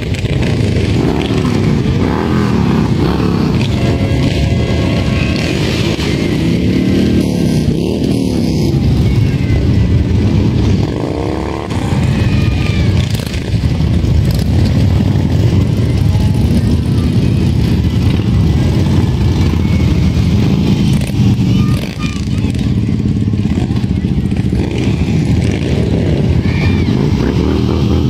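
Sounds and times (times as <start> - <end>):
motorcycle engines passing slowly: 0.0 - 28.0.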